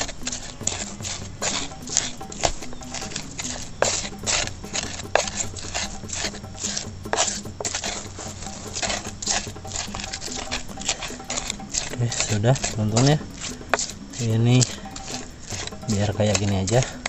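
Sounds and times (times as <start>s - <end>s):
pestle grinding in stone mortar: 0.0s - 17.0s.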